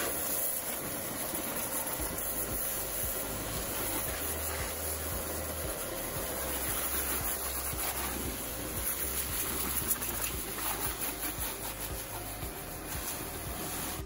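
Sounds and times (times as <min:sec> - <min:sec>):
pressure washer water jet hissing: 0:00.0 - 0:14.0
pump motor humming: 0:00.0 - 0:14.0.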